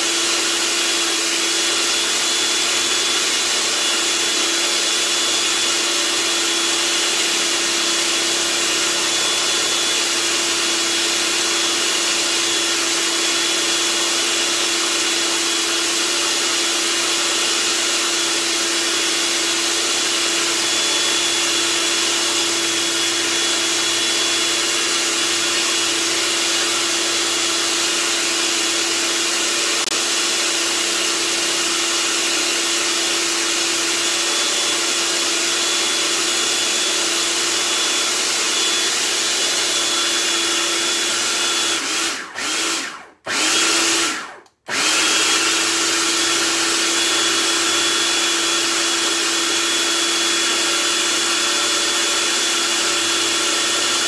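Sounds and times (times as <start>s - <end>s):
food processor motor grinding: 0.0s - 54.0s.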